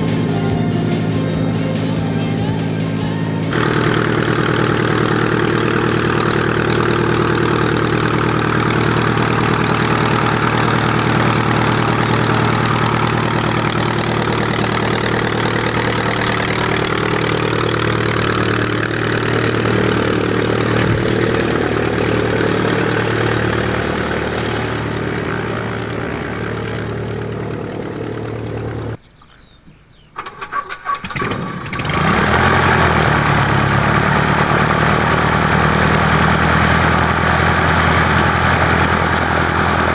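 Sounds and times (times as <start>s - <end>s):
aircraft piston engine running: 0.0s - 29.0s, 30.2s - 39.9s.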